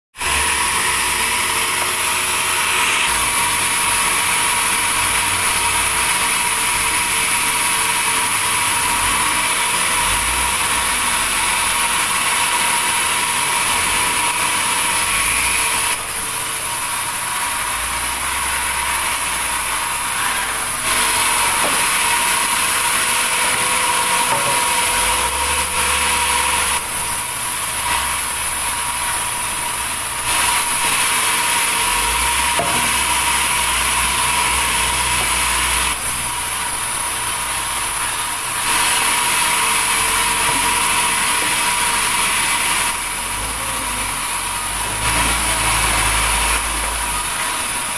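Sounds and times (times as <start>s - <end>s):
sawmill saw cutting log: 0.2s - 47.9s.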